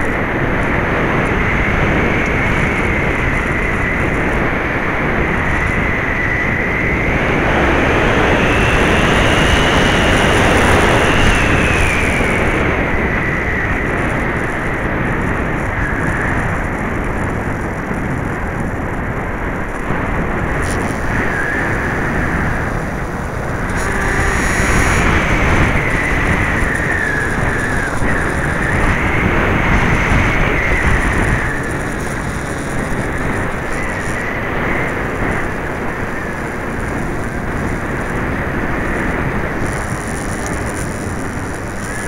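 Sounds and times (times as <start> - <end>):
model plane motor whining: 0.0 - 18.0, 19.6 - 42.0
heavy wind rush: 0.0 - 42.0.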